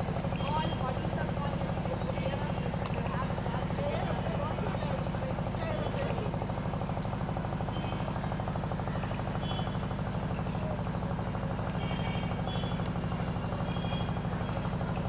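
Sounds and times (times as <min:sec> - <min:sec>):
low mechanical hum with flutter: 0:00.0 - 0:15.0.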